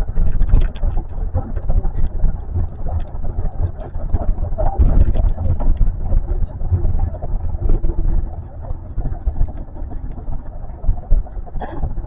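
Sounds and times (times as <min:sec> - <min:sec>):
train interior ride rumble: 0:00.0 - 0:12.0.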